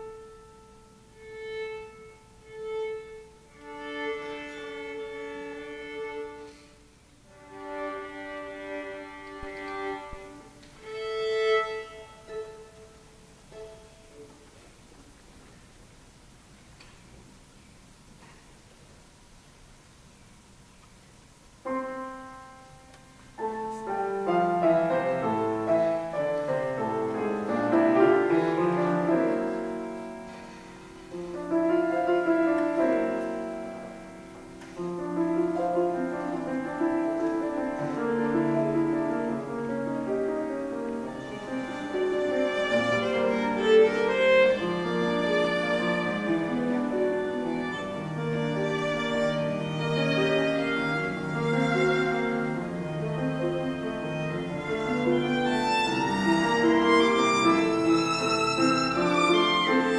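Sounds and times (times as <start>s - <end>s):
violin and piano classical piece: 0.0s - 14.8s, 21.7s - 59.9s.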